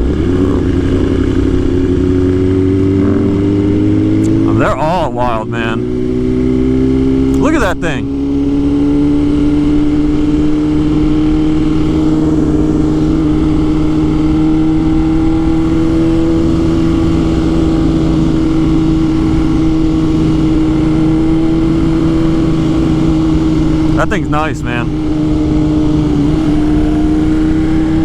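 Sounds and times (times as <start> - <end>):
motorcycle engine revving steadily: 0.0 - 28.0.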